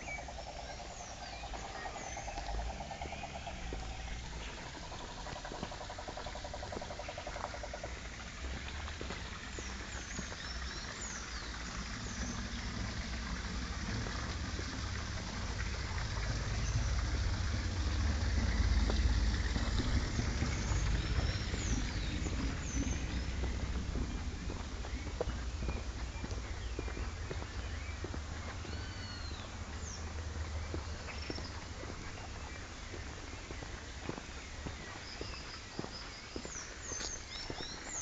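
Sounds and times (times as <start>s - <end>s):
stream trickling: 0.0s - 38.0s
microphone rumble: 1.0s - 32.6s.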